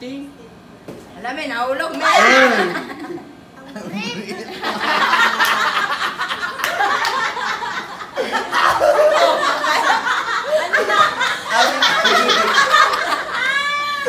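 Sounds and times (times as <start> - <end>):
people laughing: 2.1 - 14.0.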